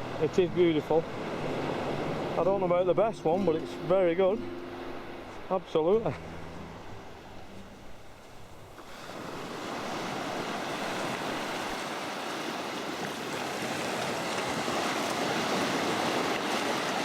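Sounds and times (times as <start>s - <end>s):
sea water rushing: 0.0s - 17.0s.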